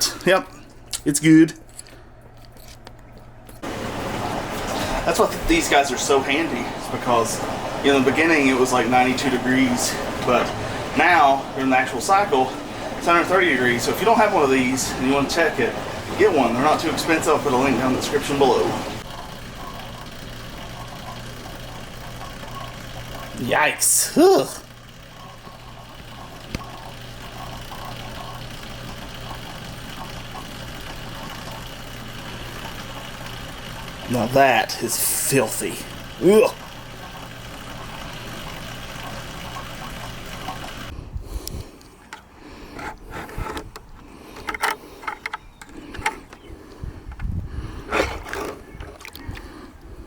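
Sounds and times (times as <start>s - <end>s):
dishwasher pump motor humming: 2.8s - 41.0s, 42.0s - 50.0s.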